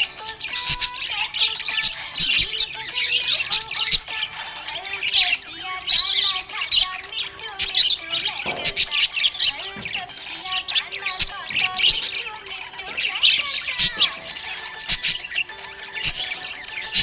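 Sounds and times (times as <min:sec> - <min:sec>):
parrots chirping and chattering: 0:00.0 - 0:17.0.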